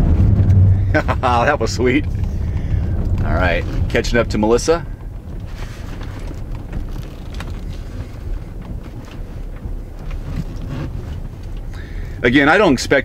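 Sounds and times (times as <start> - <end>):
tyres rumbling on gravel: 0.0 - 13.0.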